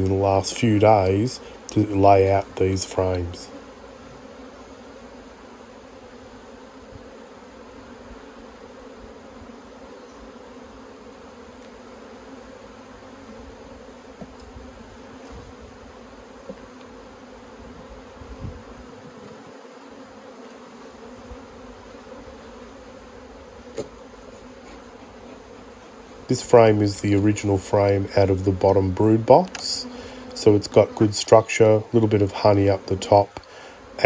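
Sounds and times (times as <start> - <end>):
bees humming: 0.0 - 34.0.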